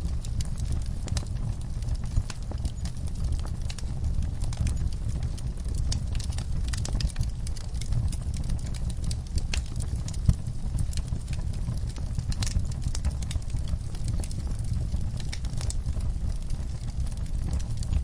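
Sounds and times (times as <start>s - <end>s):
fire low rumble: 0.0s - 18.0s
wood fire crackling and popping: 0.0s - 18.0s.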